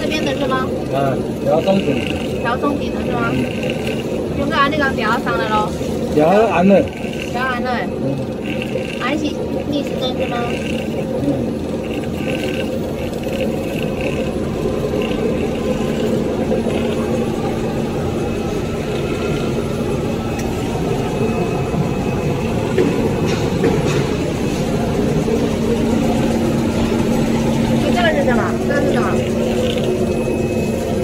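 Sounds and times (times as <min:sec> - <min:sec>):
machinery drone and hum: 0:00.0 - 0:31.0.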